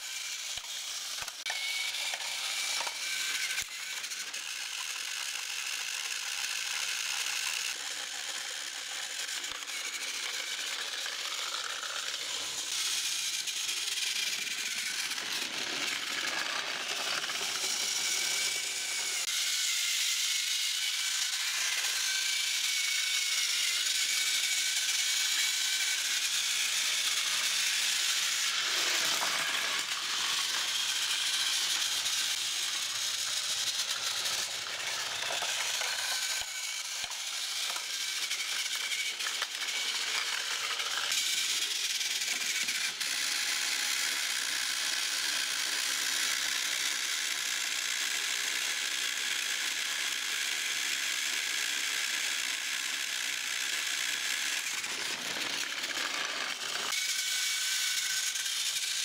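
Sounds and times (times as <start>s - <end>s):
toy train motor whirring: 0.0s - 59.0s.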